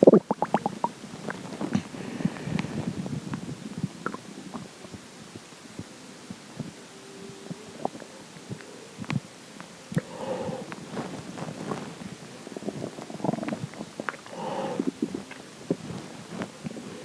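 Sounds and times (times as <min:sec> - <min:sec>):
stomach gurgling: 0:00.0 - 0:06.8, 0:07.4 - 0:09.3, 0:09.9 - 0:17.0.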